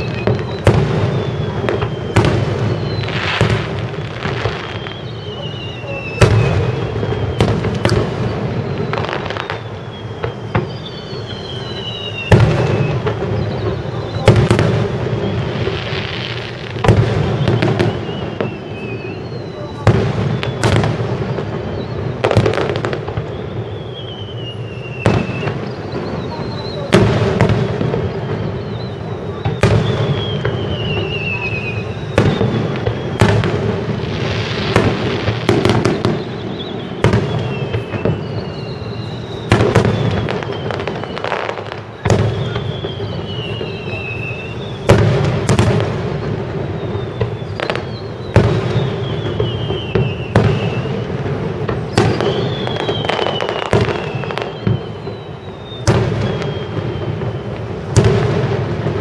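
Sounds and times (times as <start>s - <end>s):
high whistle falling in pitch: 0.0s - 58.7s
fireworks cracks and booms: 0.0s - 59.0s.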